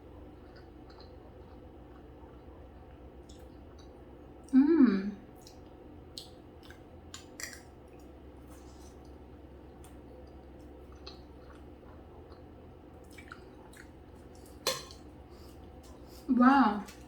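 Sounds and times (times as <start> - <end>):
wet mouth eating sounds: 0.3 - 17.0.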